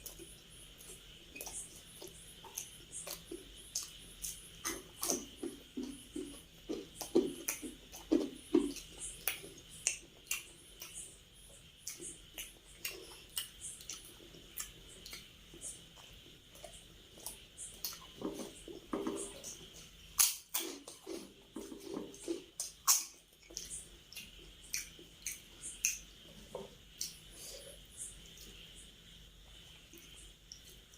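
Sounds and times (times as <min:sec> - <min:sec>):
chewing and mouth smacks: 0:00.0 - 0:28.6.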